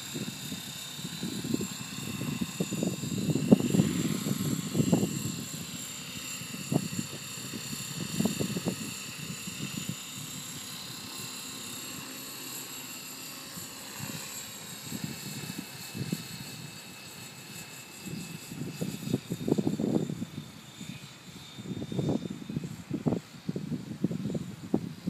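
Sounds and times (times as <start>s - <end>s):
wind rumbling on microphone: 0.0s - 11.3s, 13.6s - 25.0s
model helicopter whining: 0.0s - 25.0s.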